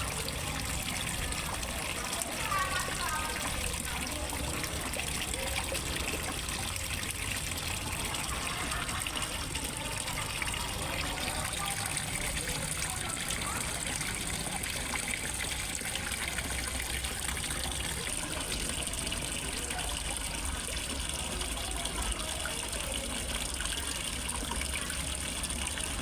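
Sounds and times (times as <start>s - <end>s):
water pouring into pond: 0.0s - 26.0s.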